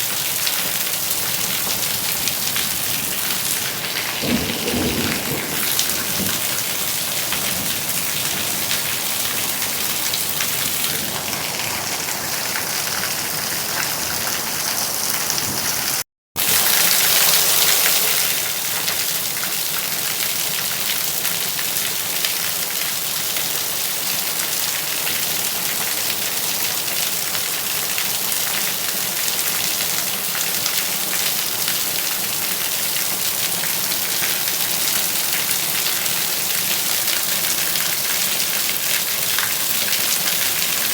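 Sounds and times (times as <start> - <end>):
rain falling on a surface: 0.0 - 40.9.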